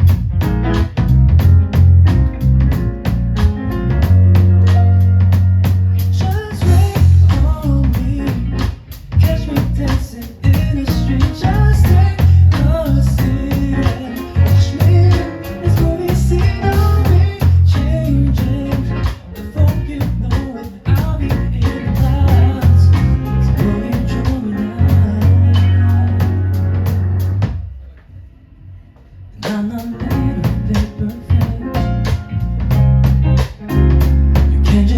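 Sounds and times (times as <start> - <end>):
live band playing pop song: 0.0 - 27.7, 29.4 - 34.9
drum kit beat: 0.0 - 28.0, 29.4 - 34.9.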